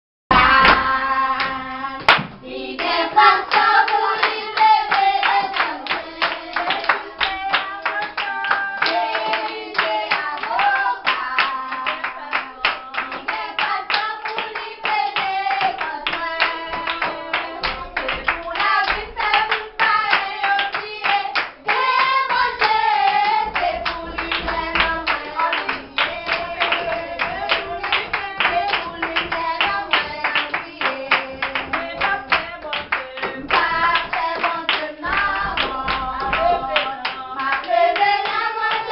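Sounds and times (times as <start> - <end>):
children singing: 0.3 - 38.9
rhythmic hand clapping: 0.3 - 38.9.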